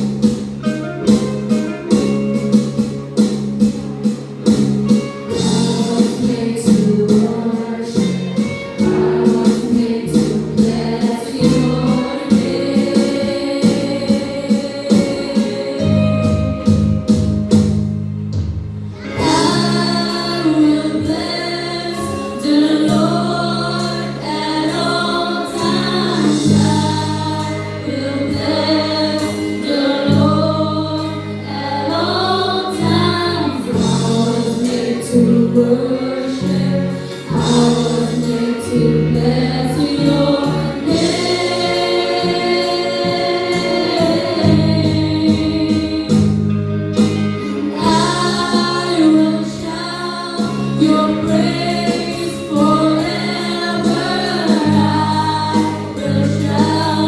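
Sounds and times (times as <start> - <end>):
low instrumental backing: 0.0 - 57.0
choir singing in unison: 5.4 - 16.5, 19.1 - 46.3, 47.5 - 57.0.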